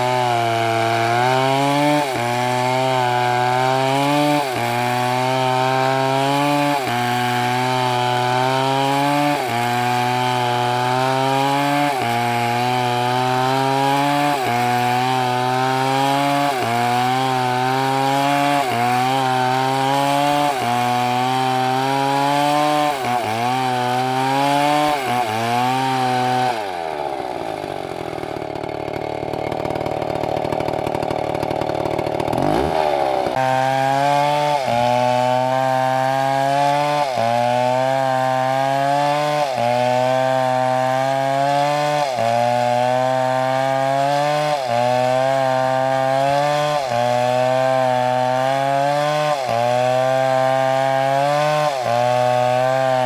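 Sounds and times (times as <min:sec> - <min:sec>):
chainsaw cutting tree: 0:00.0 - 0:53.0.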